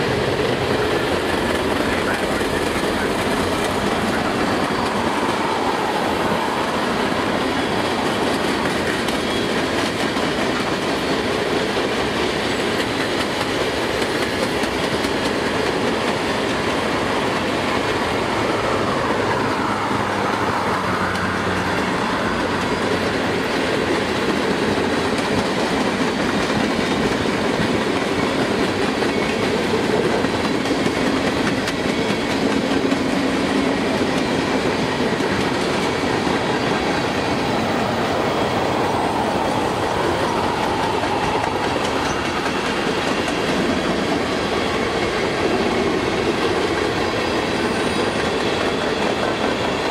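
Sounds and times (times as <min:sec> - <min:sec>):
freight train wheels on rails: 0:00.0 - 0:49.9.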